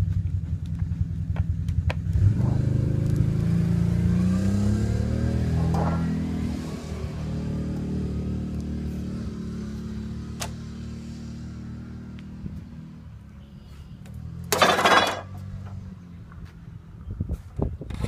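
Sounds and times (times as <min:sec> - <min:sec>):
engine running and revving: 0:00.0 - 0:18.0.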